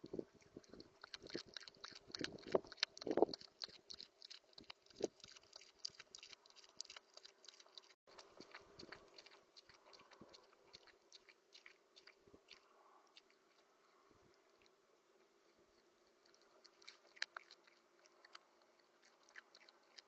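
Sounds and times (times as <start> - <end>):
rodent chewing seeds: 0.1 - 20.0.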